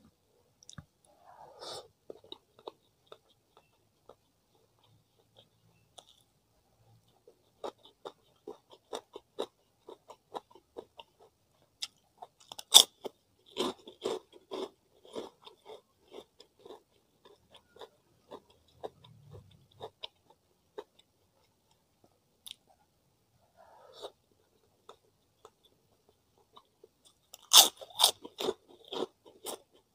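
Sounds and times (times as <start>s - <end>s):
person chewing food: 1.8s - 6.3s, 7.0s - 21.8s, 23.9s - 29.9s.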